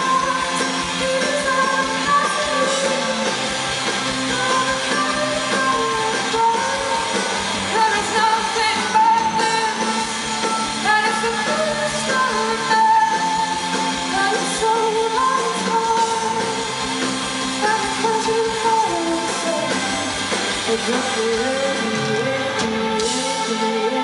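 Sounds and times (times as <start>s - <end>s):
live rock band: 0.0s - 24.0s.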